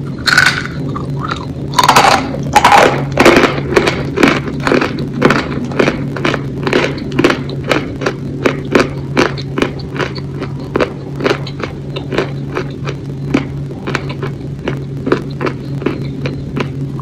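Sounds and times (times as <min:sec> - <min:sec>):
low steady hum: 0:00.0 - 0:17.0
wet chewing sounds: 0:00.2 - 0:17.0.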